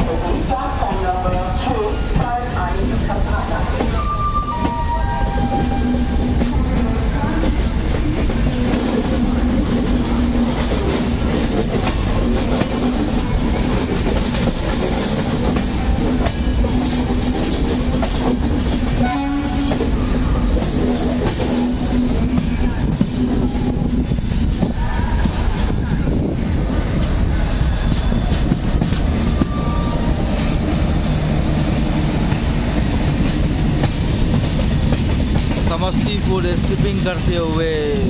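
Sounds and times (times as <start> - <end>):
train wheels on rails: 0.0 - 38.0.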